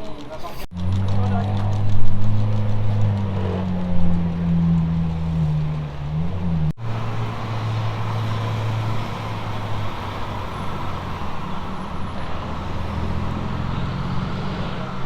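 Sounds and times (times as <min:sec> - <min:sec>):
car engine running at low revs: 0:00.7 - 0:15.0.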